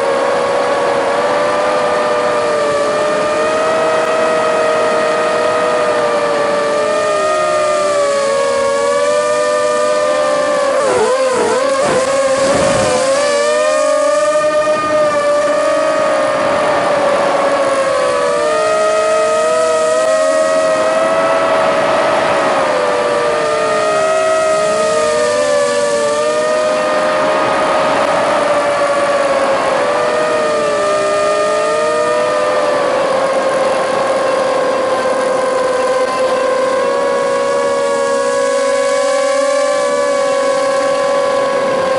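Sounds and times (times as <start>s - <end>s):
model aircraft motor whine: 0.0s - 41.9s.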